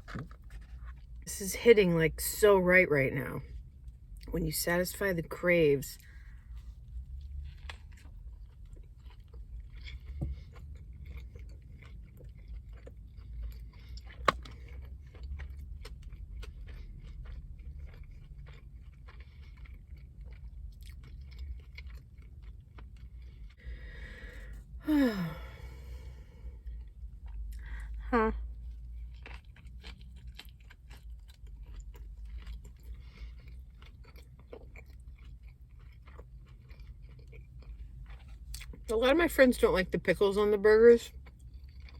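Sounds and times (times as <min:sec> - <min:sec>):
person chewing food: 0:00.0 - 0:01.2, 0:06.0 - 0:38.9, 0:41.1 - 0:41.9.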